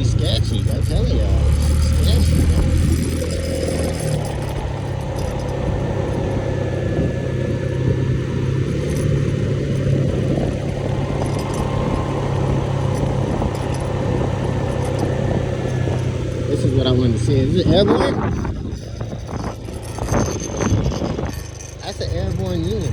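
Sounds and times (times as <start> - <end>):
motorbike engine running: 0.0 - 22.9.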